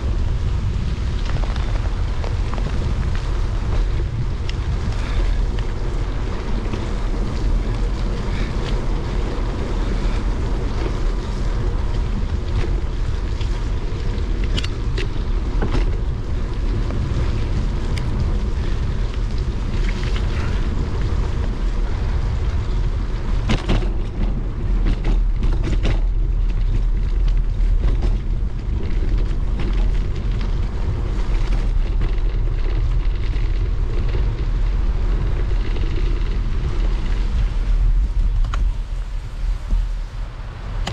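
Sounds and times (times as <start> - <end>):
bicycle clicks and rattles: 0.0 - 40.9
tyres hissing on wet path: 0.0 - 40.9
wind rumbling on microphone: 0.0 - 40.9.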